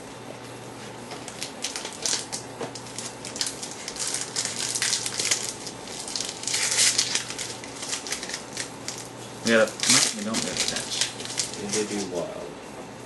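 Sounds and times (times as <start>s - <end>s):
wrapper crinkling: 1.1s - 12.2s.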